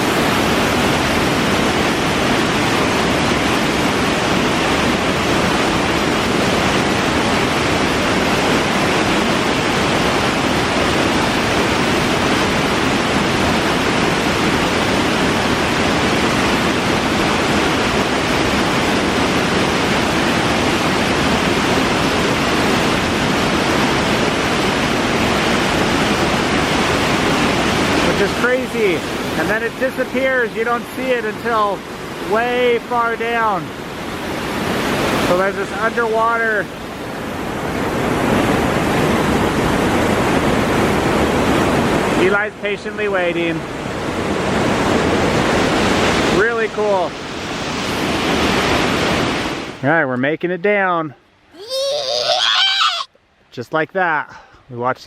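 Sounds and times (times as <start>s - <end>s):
waterfall rushing: 0.0s - 49.8s, 51.4s - 53.1s.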